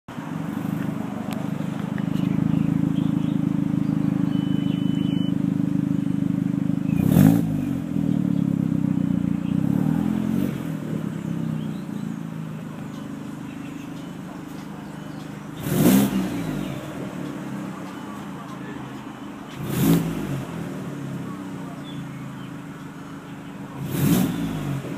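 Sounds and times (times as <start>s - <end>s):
car engine droning: 0.1s - 24.9s
engine swells rising and falling: 0.1s - 24.9s.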